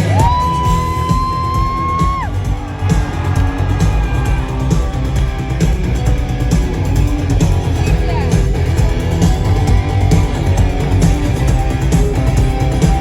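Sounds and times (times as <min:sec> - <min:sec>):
rock music with guitars and drums: 0:00.0 - 0:13.0.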